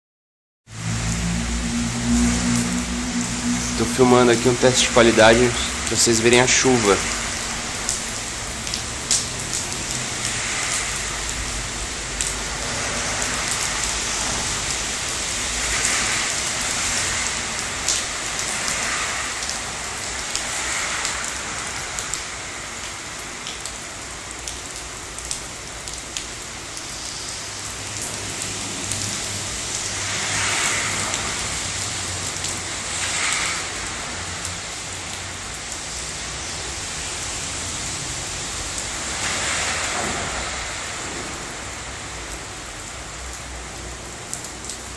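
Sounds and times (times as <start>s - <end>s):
hiss of downpour: 0.7s - 44.9s
rain drops hitting close by: 0.7s - 44.9s.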